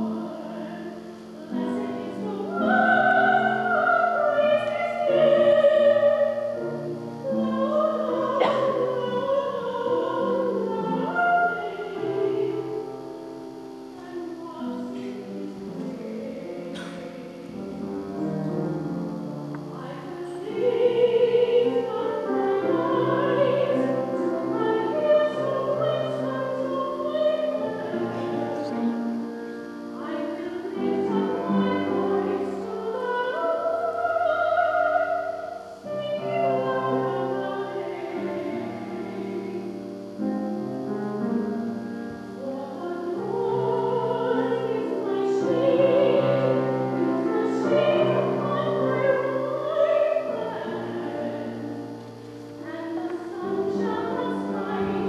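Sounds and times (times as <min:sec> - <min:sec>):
person singing with vibrato: 0:00.0 - 0:55.0.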